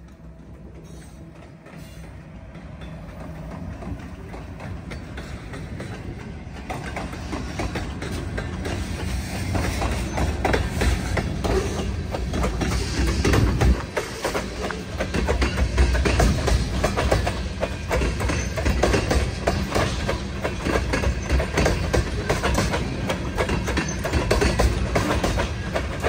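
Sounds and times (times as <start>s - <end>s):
locomotive engine hum: 0.0s - 26.0s
wheels clicking over rail joints: 0.0s - 26.0s.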